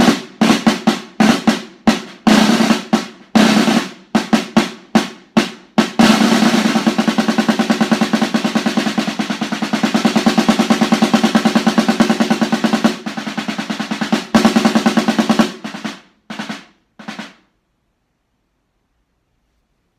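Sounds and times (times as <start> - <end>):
snare drum rolls: 0.0 - 17.7.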